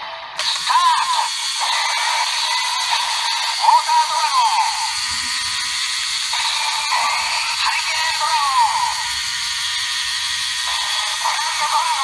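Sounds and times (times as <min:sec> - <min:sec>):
toy electronic looping sound: 0:00.4 - 0:12.0.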